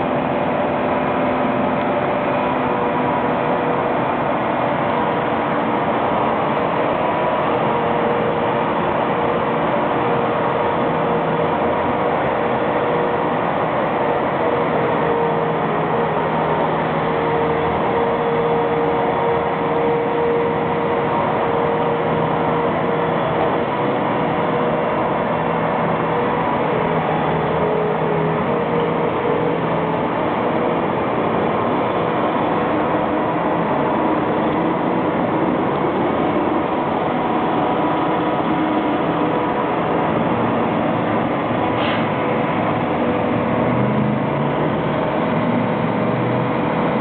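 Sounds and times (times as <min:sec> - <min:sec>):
tractor engine drone: 0:00.0 - 0:47.0.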